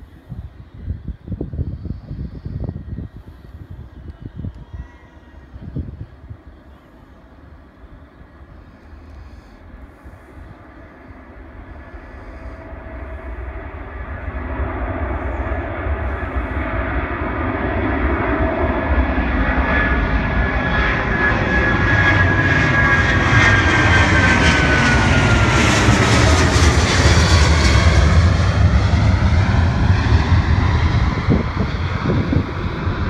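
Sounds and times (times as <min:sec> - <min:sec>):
jet engine whine: 0:00.0 - 0:33.0
jet rumble: 0:00.0 - 0:33.0.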